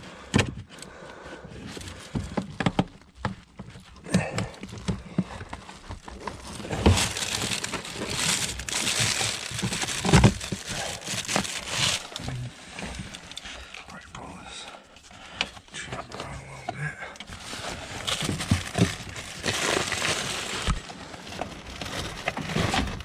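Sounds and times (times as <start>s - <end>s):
rustling and scraping of wiring: 1.5s - 14.1s, 15.0s - 23.0s.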